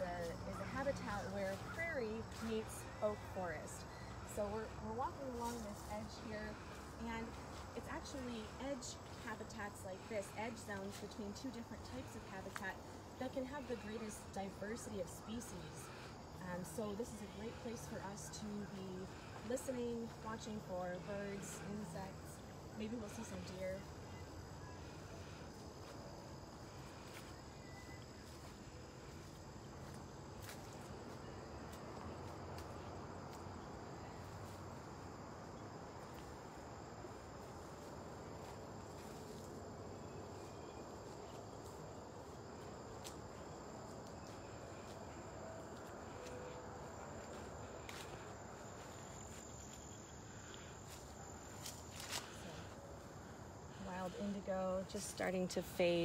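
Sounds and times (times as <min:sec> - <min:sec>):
crickets trilling: 0:00.0 - 0:56.0
rustle of walking and handling: 0:00.0 - 0:56.0.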